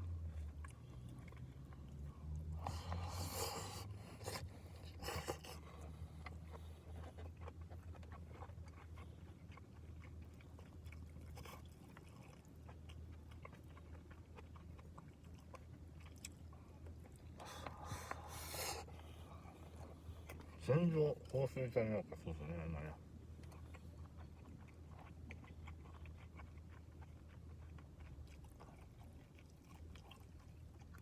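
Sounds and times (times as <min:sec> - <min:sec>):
steady low hum: 0:00.0 - 0:31.0
person chewing: 0:00.1 - 0:21.4, 0:23.3 - 0:31.0.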